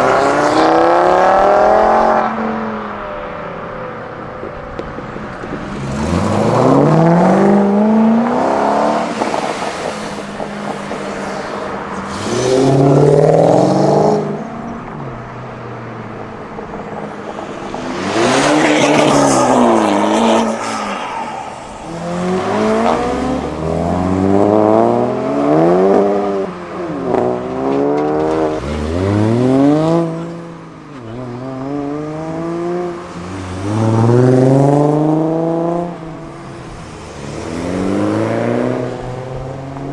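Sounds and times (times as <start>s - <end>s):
cars accelerating past: 0.0s - 39.9s.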